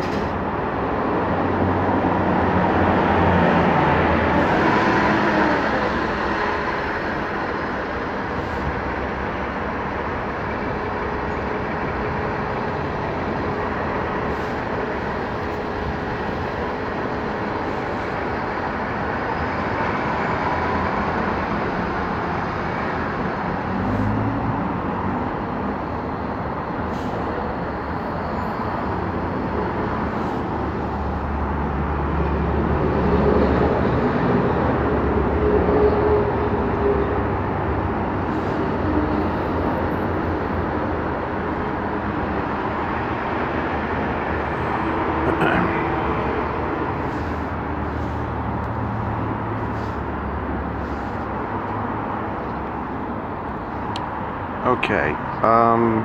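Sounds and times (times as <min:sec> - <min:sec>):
bus and traffic engine rumble: 0:00.0 - 0:56.0
heavy vehicle engine rumble: 0:00.0 - 0:56.0.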